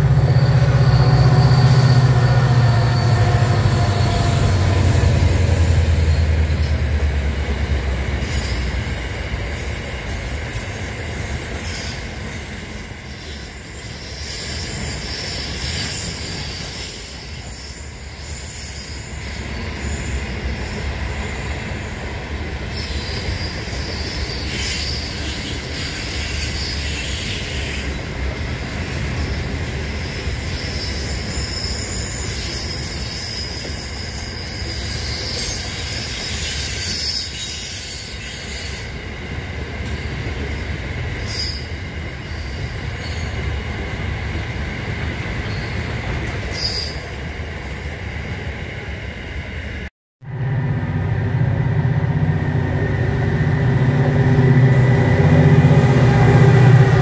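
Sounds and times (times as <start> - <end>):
wheel squeal: 0.0 - 22.0, 22.6 - 48.6
train rumble: 0.0 - 57.0.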